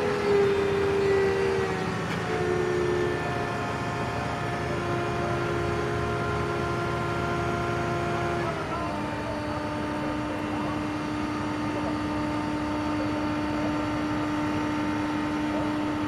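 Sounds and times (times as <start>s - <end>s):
crane engine whining: 0.0s - 16.0s.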